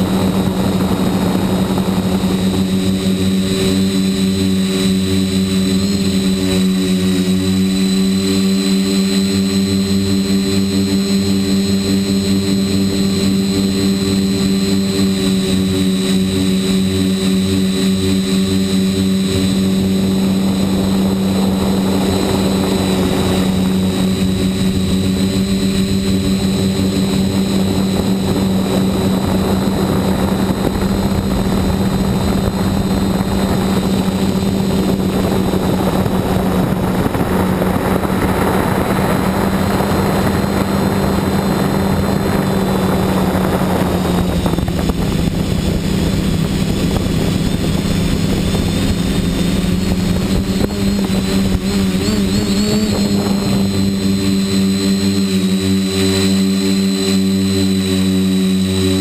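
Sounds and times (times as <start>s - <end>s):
propeller wash and wind: 0.0s - 59.0s
quadcopter motors buzzing: 0.0s - 59.0s.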